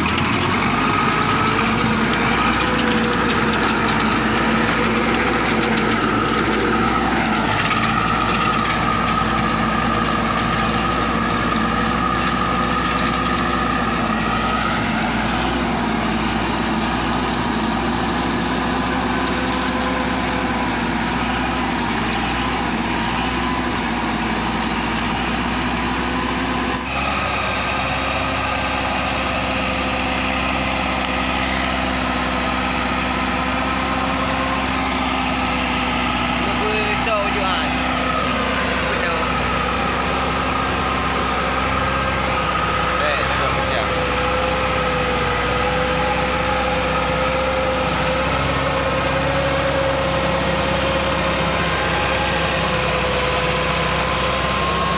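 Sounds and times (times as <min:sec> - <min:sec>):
tractor engine running under load: 0:00.0 - 0:54.9.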